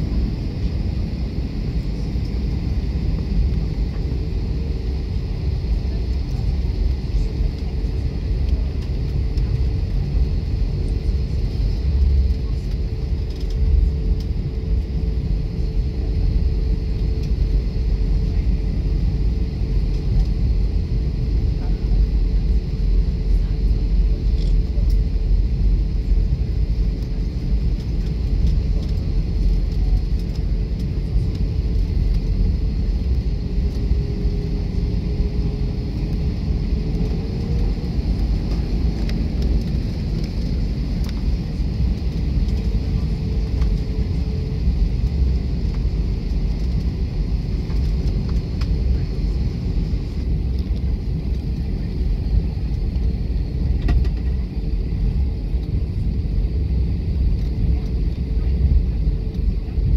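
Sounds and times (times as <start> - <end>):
low rumble of jet engines: 0.0 - 59.9.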